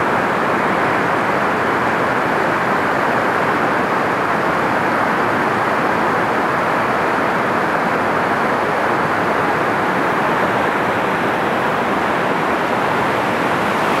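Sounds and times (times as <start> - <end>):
whitewater rapid rushing over rocks: 0.0 - 14.0.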